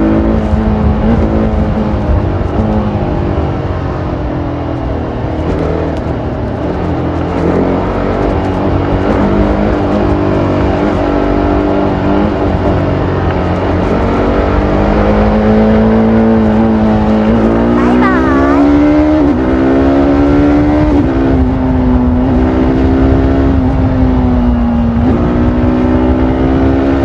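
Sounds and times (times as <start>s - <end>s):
motorcycle engine running: 0.0s - 26.5s.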